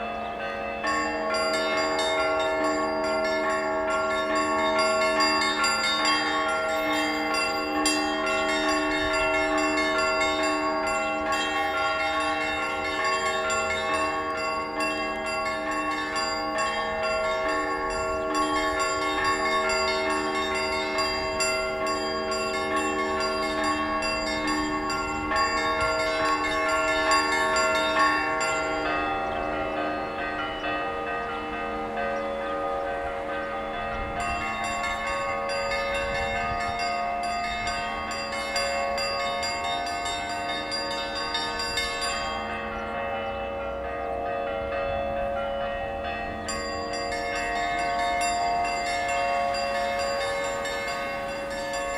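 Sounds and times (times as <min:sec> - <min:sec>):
church bells ringing: 0:00.0 - 0:51.9.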